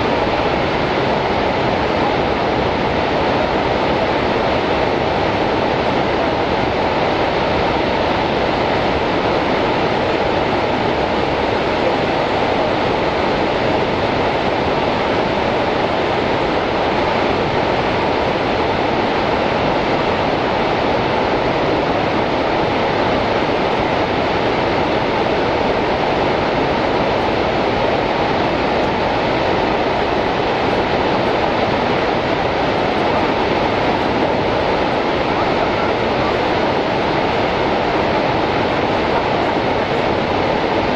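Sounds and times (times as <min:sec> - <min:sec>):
rush of falling water: 0:00.0 - 0:40.9.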